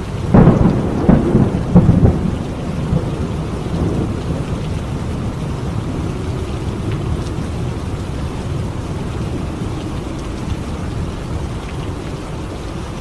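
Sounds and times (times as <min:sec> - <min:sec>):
low rumble of thunder: 0:00.0 - 0:13.0
raindrops ticking: 0:00.0 - 0:13.0
steady rainfall: 0:00.0 - 0:13.0.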